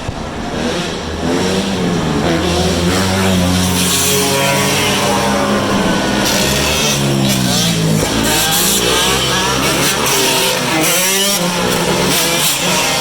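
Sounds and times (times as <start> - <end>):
motorcycles revving past: 0.1 - 13.0.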